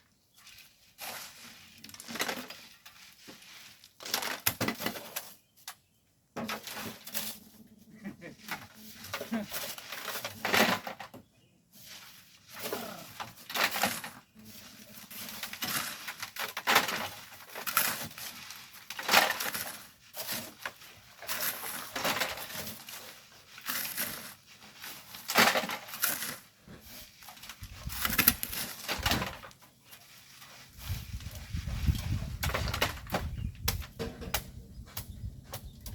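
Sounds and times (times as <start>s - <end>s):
shovels scraping sand: 0.4s - 5.5s, 6.4s - 11.0s, 11.7s - 35.7s.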